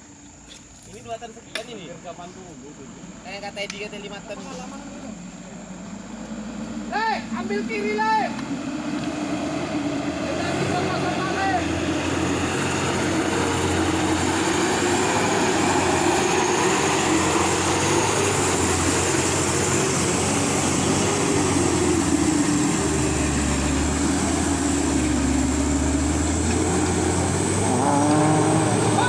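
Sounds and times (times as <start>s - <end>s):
truck diesel engine under load: 4.0s - 29.0s.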